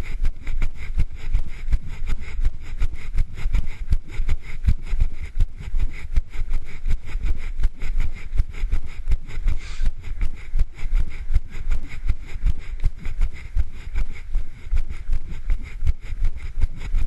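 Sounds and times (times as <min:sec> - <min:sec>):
running footsteps on pavement: 0:00.0 - 0:17.0.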